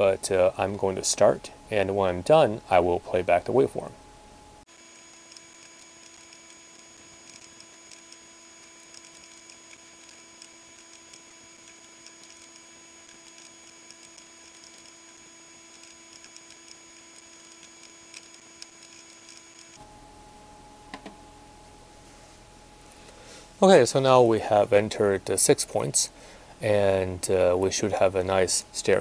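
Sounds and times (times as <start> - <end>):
faint electrical hum: 0.0 - 29.0.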